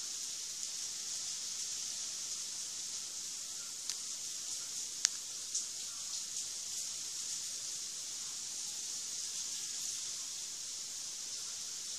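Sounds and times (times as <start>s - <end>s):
high-pitched hiss: 0.0s - 11.9s.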